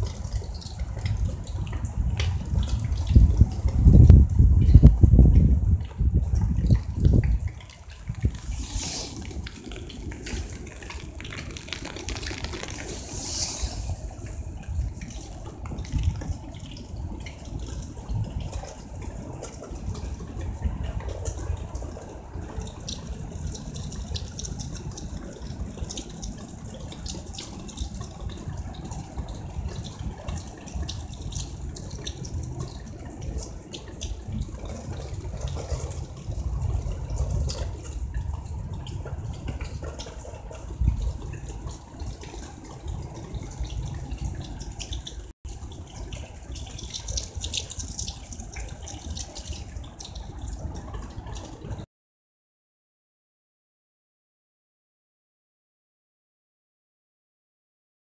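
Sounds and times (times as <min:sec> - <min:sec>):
running water: 0:00.0 - 0:51.9
steady rain: 0:00.0 - 0:51.9.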